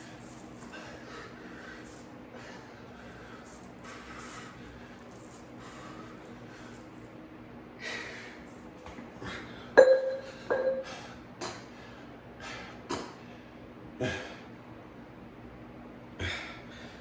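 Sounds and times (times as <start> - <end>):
heavy breaths: 0.0 - 7.2, 7.8 - 14.5.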